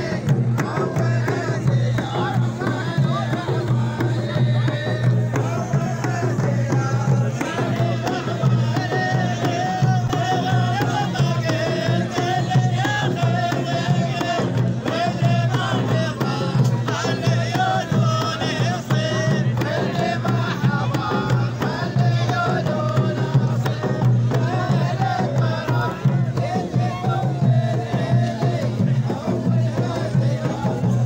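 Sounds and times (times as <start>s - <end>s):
large drum beating: 0.0s - 31.0s
men chanting in unison: 0.0s - 31.0s.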